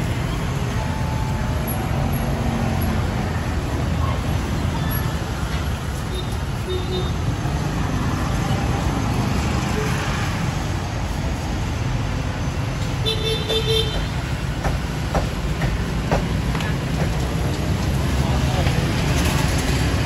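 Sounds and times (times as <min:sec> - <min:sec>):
passing traffic: 0:00.0 - 0:20.0.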